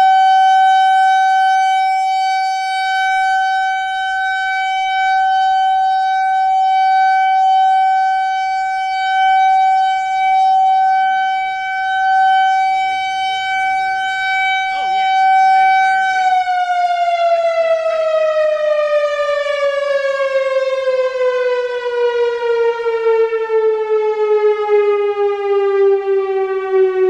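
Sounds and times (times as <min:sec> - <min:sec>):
electronic warning siren: 0:00.0 - 0:27.0.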